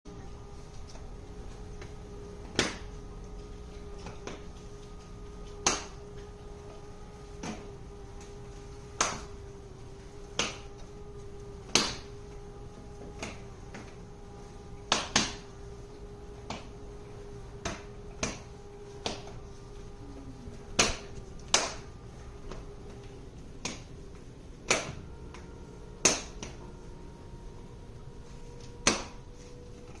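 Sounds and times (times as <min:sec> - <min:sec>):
faint mechanical hum: 0:00.1 - 0:30.0.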